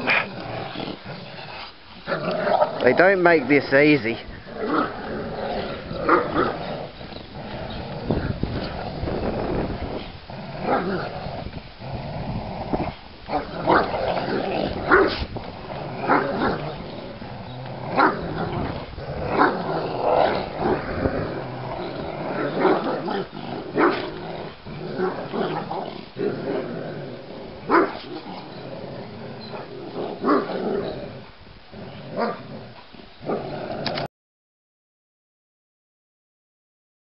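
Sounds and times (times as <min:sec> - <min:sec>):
dog growling: 0:00.0 - 0:34.1.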